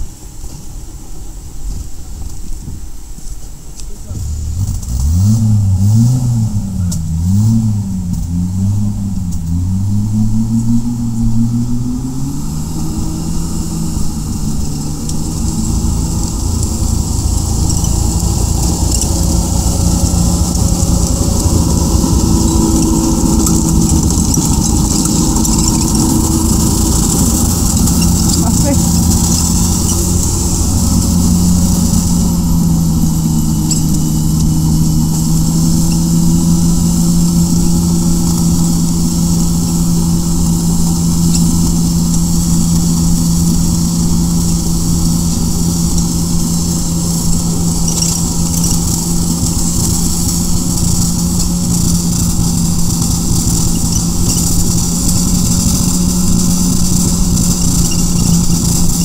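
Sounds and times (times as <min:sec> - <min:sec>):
road and wind noise: 0:00.0 - 0:59.0
vehicle engine droning: 0:00.0 - 0:59.0.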